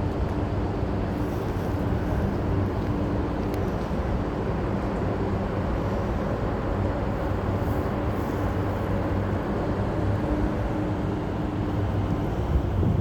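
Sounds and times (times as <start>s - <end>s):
cable car mechanical hum: 0.0s - 13.0s.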